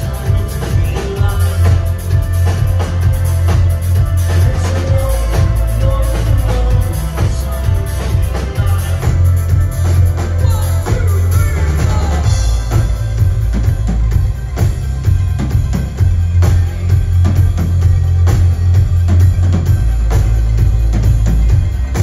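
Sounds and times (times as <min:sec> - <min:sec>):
drum beat: 0:00.0 - 0:22.0.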